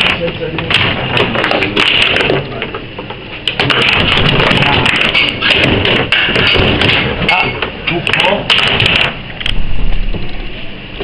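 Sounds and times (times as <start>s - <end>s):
foosball clacks: 0.0s - 9.2s
noisy background: 0.0s - 11.0s.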